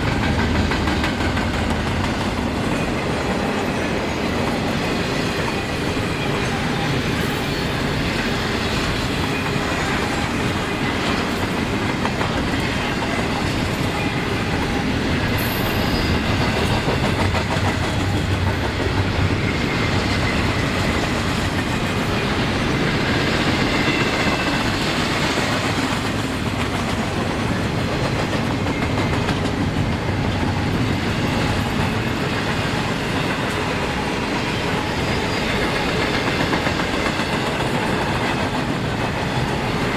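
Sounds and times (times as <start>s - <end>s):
railroad cars wheels clattering: 0.0s - 39.9s.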